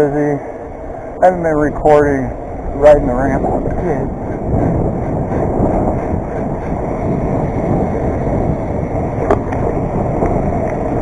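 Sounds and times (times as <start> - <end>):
tyres rumbling on asphalt: 0.0 - 11.0
wind noise: 0.0 - 11.0.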